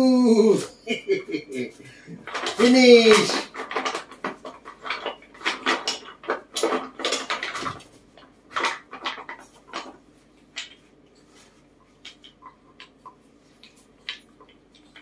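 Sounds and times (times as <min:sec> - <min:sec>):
wooden pieces clattering: 0:02.1 - 0:15.0.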